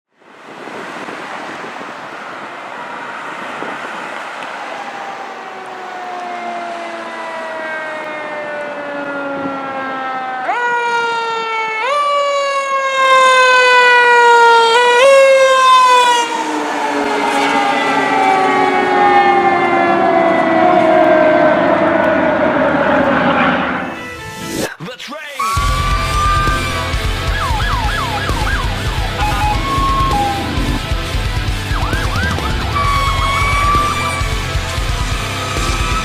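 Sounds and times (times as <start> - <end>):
fire engine siren wailing: 0.2 - 24.6, 25.4 - 36.0.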